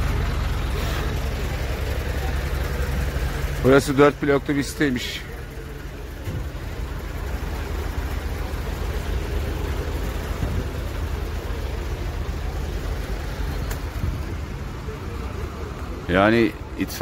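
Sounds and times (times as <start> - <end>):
heavy vehicle engines idling: 0.0 - 17.0.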